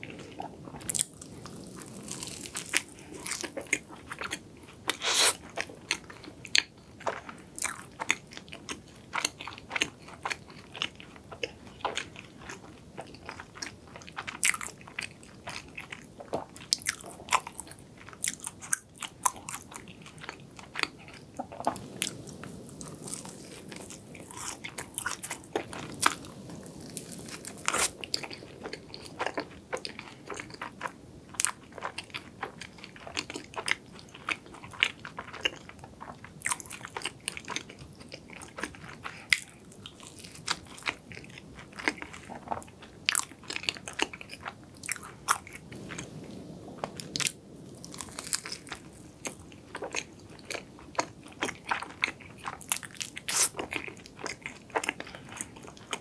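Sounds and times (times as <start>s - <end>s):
chewing crisp pastry: 0.0s - 56.0s
crackles of crisp layers: 0.0s - 56.0s.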